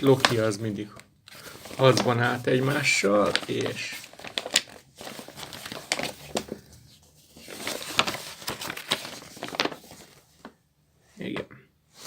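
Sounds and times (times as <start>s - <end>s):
paper pages rustling: 0.0s - 10.6s.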